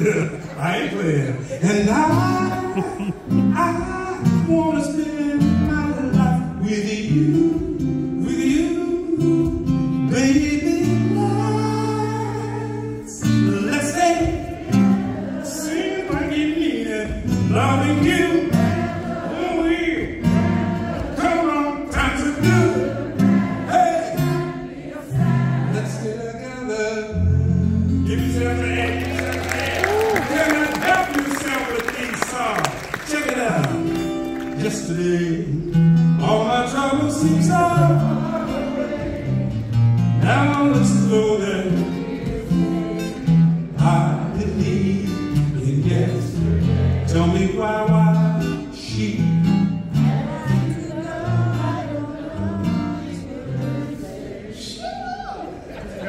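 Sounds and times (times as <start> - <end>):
man singing into microphone: 0.0 - 24.6, 25.7 - 28.9, 34.6 - 39.4, 40.2 - 53.9
acoustic guitar: 0.0 - 56.0.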